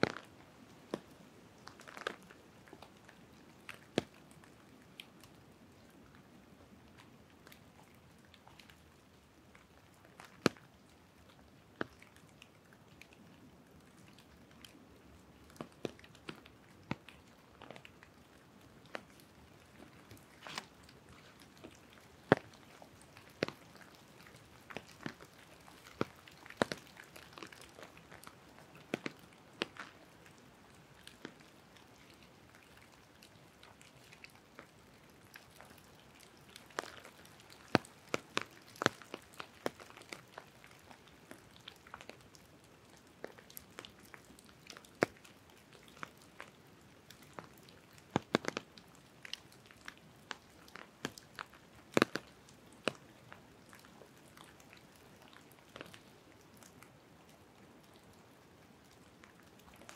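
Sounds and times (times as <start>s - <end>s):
raindrops dripping from trees: 0.0s - 59.9s.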